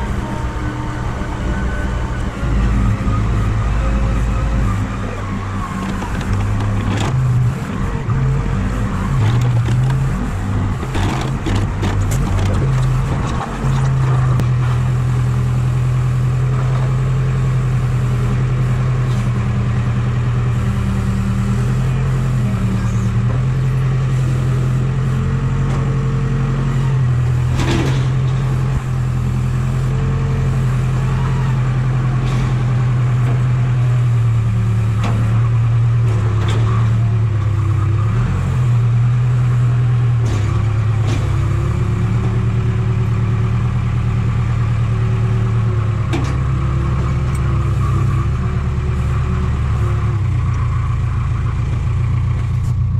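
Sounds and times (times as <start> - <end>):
heavy equipment engine running: 0.0 - 52.9.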